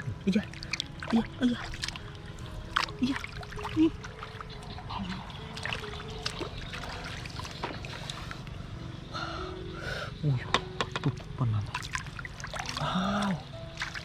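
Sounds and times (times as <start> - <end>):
water trickling: 0.0 - 9.1, 10.2 - 14.0.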